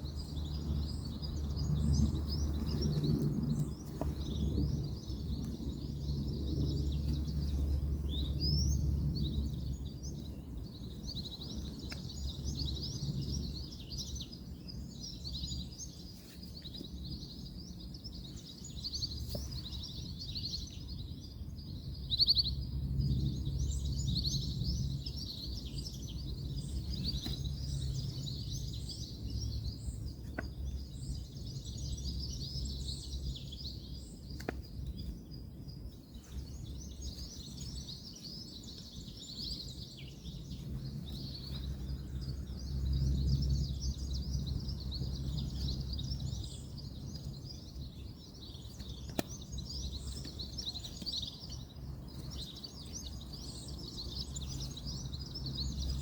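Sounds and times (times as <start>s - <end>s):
birds chirping and twittering: 0.0s - 56.0s
distant road traffic: 0.0s - 56.0s.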